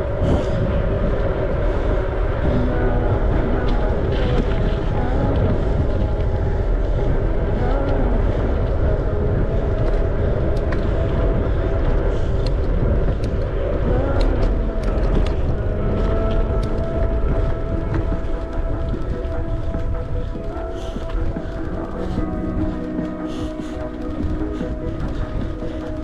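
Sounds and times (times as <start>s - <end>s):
bicycle rolling noise: 0.0s - 26.0s
faint steady tones: 0.0s - 26.0s
wind rumble on microphone: 0.0s - 26.0s.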